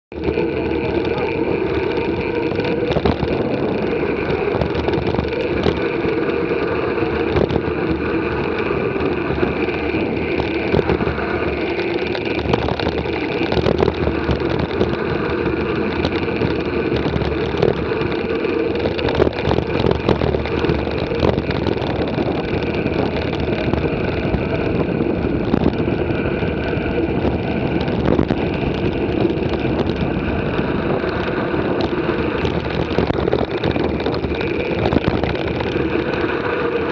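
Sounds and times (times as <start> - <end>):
bike knocks and rattles: 0.1 - 36.9
bike tyres rumbling on gravel: 0.1 - 36.9.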